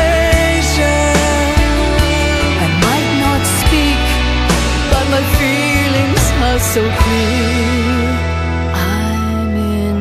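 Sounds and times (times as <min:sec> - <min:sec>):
rock ballad with band: 0:00.0 - 0:10.0.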